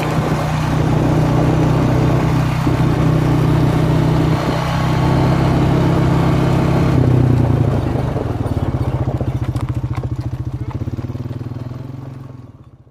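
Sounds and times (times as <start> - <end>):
small engine running: 0.0 - 12.9.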